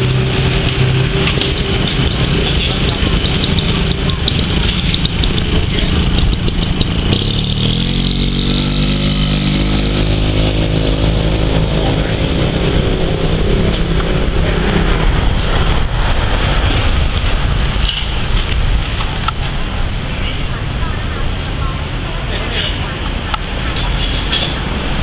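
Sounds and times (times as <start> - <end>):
traffic noise: 0.0 - 25.0
vehicle engine running: 0.0 - 25.0.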